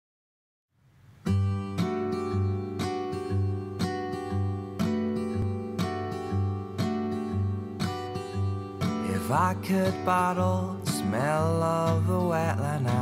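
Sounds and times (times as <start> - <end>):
acoustic guitar strumming: 1.1 - 13.0.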